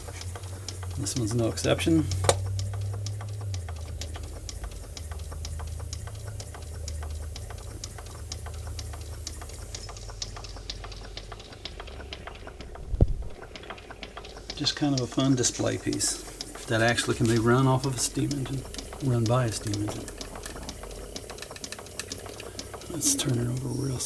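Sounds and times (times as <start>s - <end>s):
rapid regular ticking: 0.0s - 24.0s
steady low hum: 0.0s - 24.0s.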